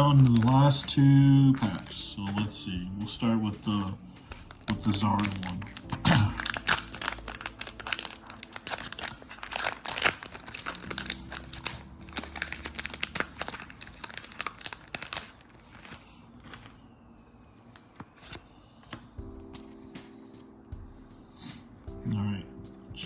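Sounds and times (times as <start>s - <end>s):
foil wrapper crinkling and tearing: 0.0s - 18.9s.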